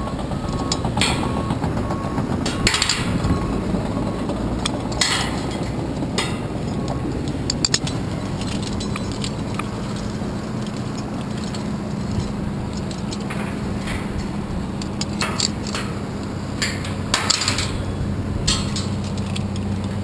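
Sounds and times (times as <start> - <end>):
climbing gear clinking on steel: 0.0 - 20.0
low steady hum: 0.0 - 20.0.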